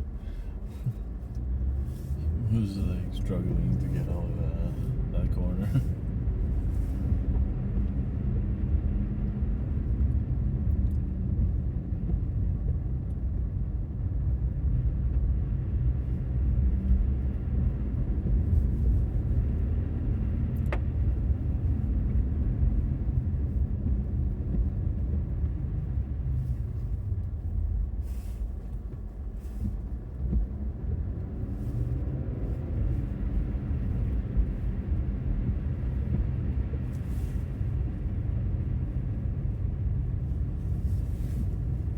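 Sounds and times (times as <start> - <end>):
car engine and tyres rumble: 0.0 - 41.9.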